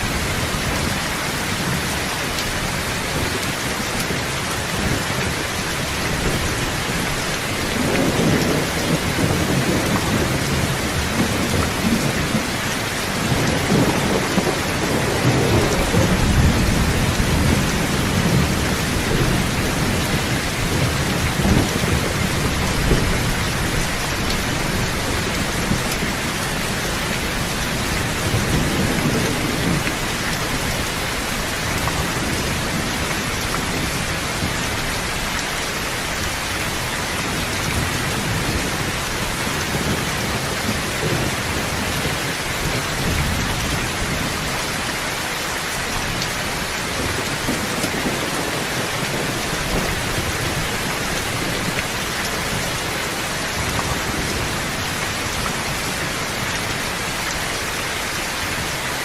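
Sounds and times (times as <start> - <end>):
dense rainfall: 0.0 - 59.0
thunder rumbles: 0.1 - 35.4, 36.0 - 45.0, 45.9 - 56.7.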